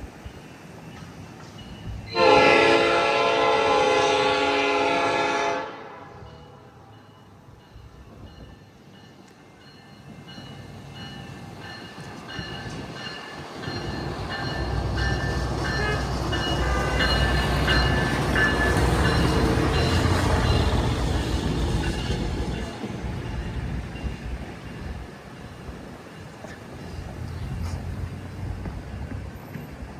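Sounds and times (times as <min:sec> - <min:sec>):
rail car rumbling past: 0:00.0 - 0:29.9.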